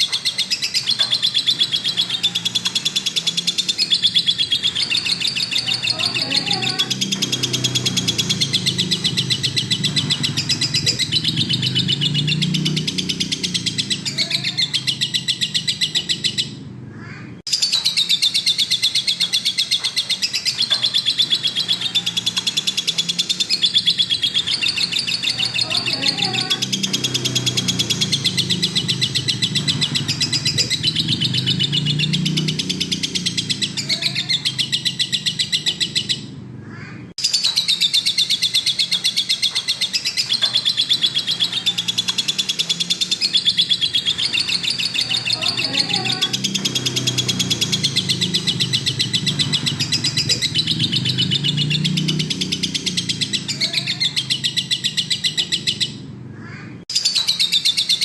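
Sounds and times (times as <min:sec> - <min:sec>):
bird chattering trills: 0:00.0 - 0:58.0.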